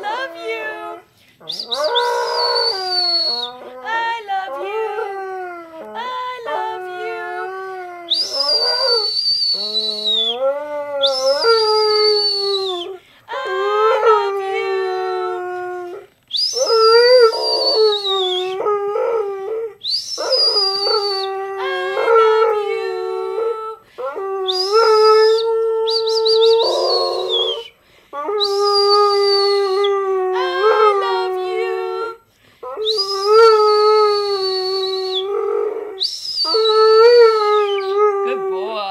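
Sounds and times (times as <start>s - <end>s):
dog howling: 0.0s - 38.9s.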